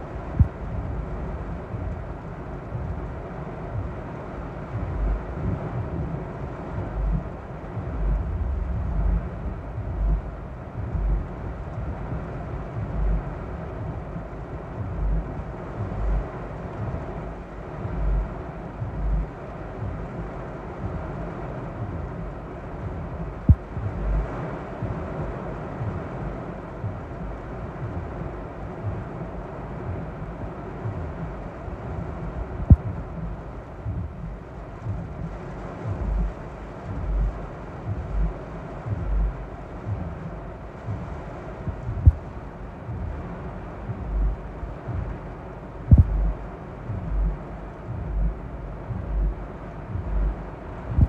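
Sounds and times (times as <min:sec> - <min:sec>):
low thumps: 0:00.0 - 0:04.0, 0:04.7 - 0:21.1, 0:21.8 - 0:25.2, 0:25.8 - 0:51.0
heavy rain on car roof: 0:00.0 - 0:51.0
windshield wipers sweeping: 0:04.7 - 0:51.0.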